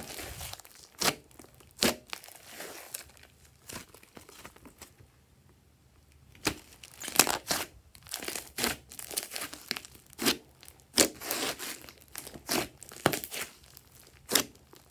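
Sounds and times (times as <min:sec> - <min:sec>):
slime crackling and popping: 0:00.0 - 0:04.0, 0:06.4 - 0:14.9.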